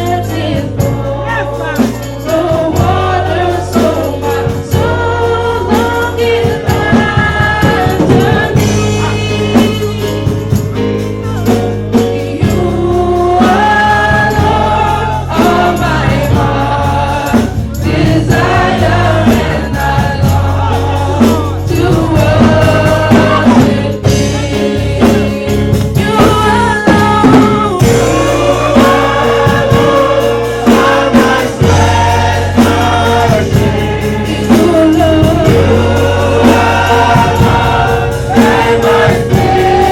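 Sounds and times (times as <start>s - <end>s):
amplified band with strong bass: 0.0s - 39.9s
gospel choir and congregation singing: 0.0s - 39.9s.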